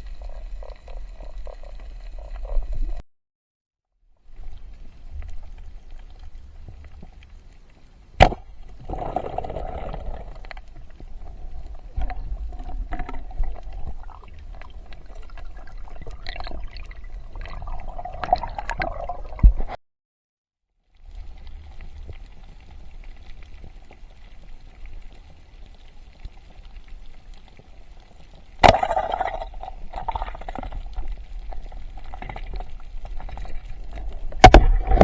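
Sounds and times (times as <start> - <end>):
water gurgling and sloshing: 4.2 - 19.8, 21.0 - 35.0.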